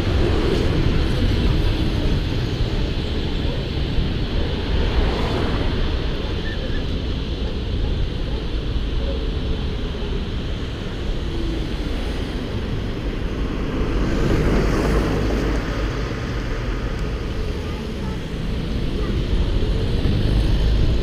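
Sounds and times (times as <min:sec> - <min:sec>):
tram running rumble: 0:00.0 - 0:21.0
wind buffeting microphone: 0:00.0 - 0:21.0.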